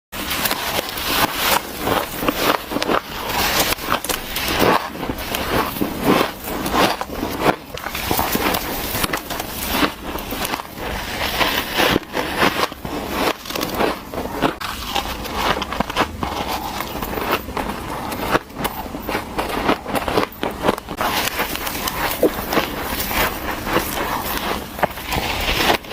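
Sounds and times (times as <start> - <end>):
ice crunching between teeth: 0.2 - 25.9.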